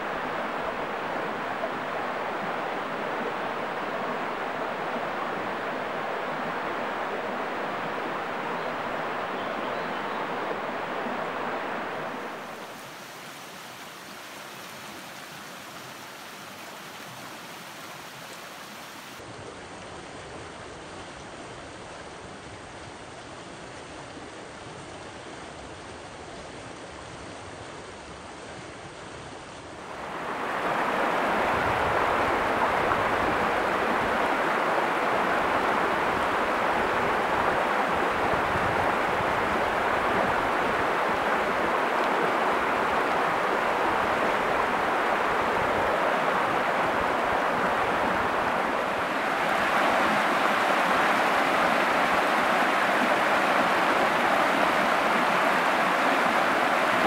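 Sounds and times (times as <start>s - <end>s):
river water rushing over rocks: 0.0s - 22.9s, 29.3s - 57.0s.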